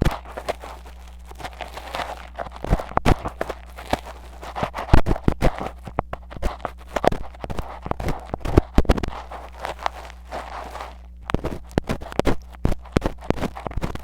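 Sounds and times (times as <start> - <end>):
metal ear pick scraping: 0.0 - 14.0.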